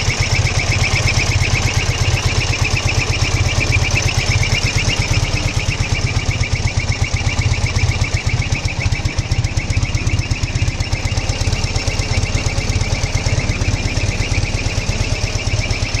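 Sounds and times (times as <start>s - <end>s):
high whistle pulsing: 0.0s - 16.0s
motorcycle engine running: 0.0s - 16.0s.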